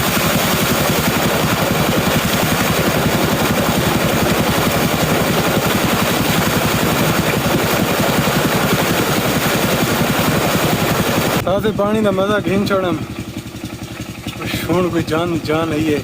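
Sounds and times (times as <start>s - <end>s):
diesel engine exhaust beat: 0.0s - 16.0s.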